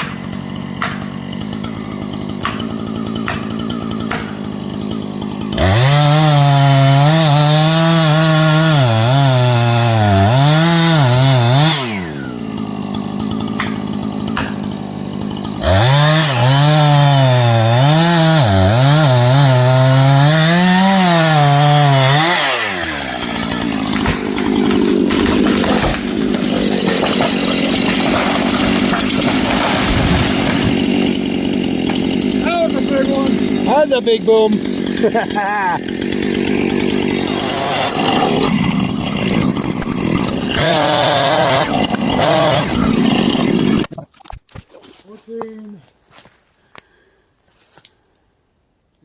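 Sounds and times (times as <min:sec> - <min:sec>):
chainsaw cutting log: 0:00.0 - 0:43.9
chainsaw idling: 0:00.0 - 0:43.9.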